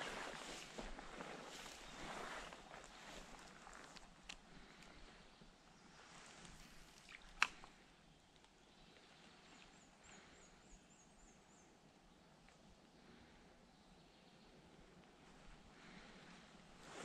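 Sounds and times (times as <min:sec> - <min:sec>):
outdoor creek ambience: 0:00.0 - 0:17.0.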